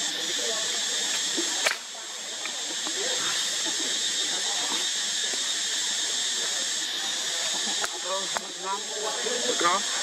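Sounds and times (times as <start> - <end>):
forest insects droning: 0.0 - 10.0.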